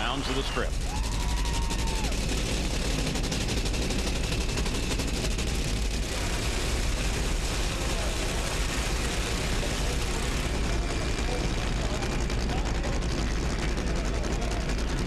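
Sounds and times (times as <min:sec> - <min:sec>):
drag racing engines crackling: 0:00.0 - 0:15.0.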